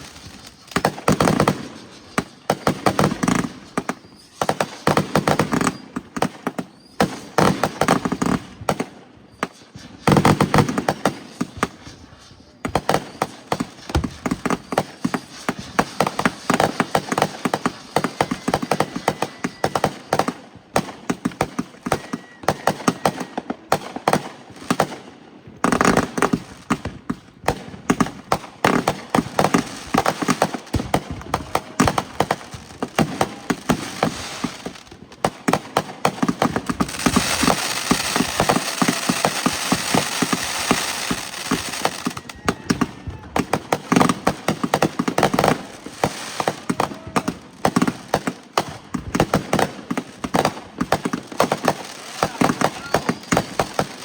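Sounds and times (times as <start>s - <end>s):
fireworks crackling pops: 0.0s - 54.0s.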